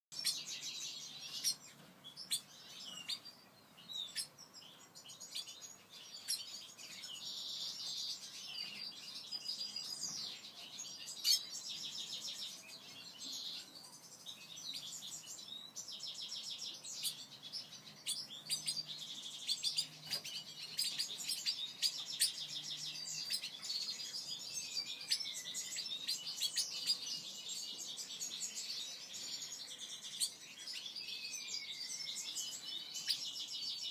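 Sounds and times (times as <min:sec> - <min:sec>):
birds chirping and twittering: 0:00.1 - 0:33.9.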